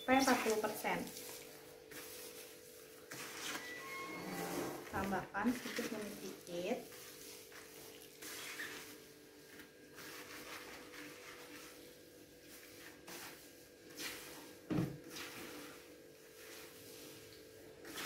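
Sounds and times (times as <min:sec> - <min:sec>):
hand mixing damp compost: 0:00.0 - 0:18.0.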